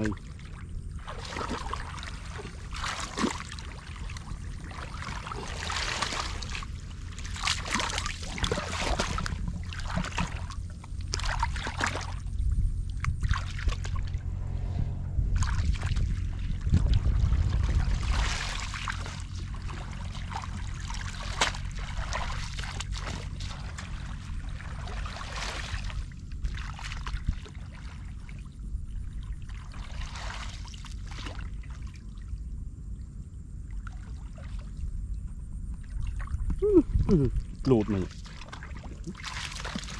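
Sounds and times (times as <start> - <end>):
muddy water sloshing: 0.0 - 32.3, 33.6 - 35.0, 35.6 - 39.9
low rumble: 0.0 - 39.9.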